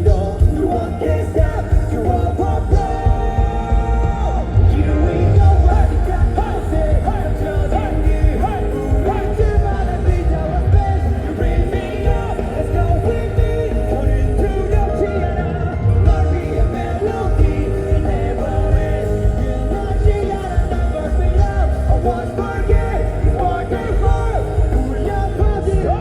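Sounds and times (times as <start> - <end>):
heavy drums: 0.0 - 26.0
live rock band playing: 0.0 - 26.0.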